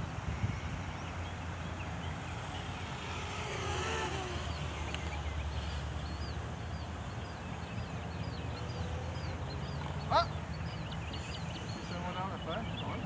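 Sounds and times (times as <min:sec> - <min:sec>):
birds chirping: 0:00.9 - 0:13.0.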